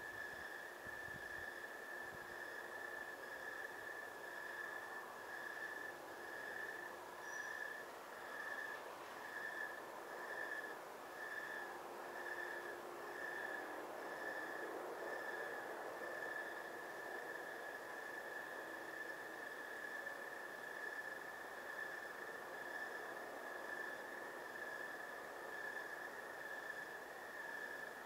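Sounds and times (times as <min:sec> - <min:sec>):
cricket chirping: 0:00.0 - 0:28.0
steady background hiss: 0:00.0 - 0:28.0.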